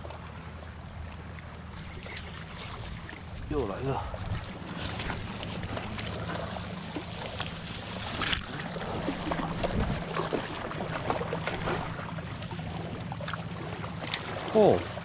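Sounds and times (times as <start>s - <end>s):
small waves lapping on rocks: 0.0s - 15.0s.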